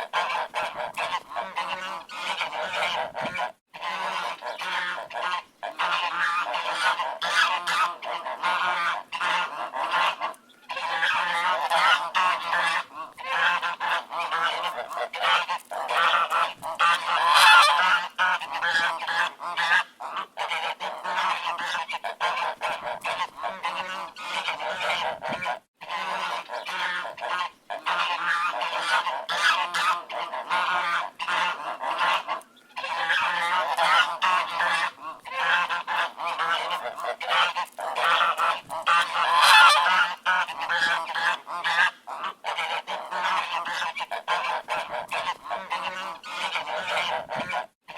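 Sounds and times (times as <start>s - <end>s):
ducks quacking: 0.0s - 47.9s.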